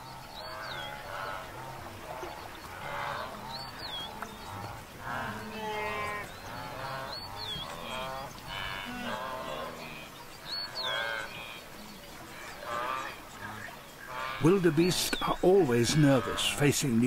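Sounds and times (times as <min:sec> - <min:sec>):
wildebeest herd grunting calls: 0:00.0 - 0:17.0.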